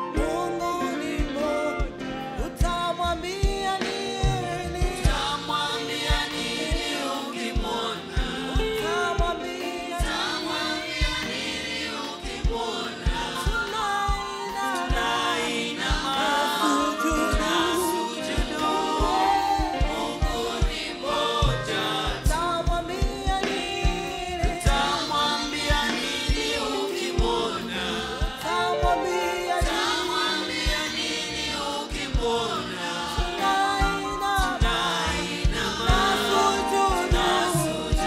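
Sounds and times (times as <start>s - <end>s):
band playing: 0.0s - 38.0s
group singing gospel song: 0.0s - 38.0s
steady drum beat: 0.0s - 38.0s.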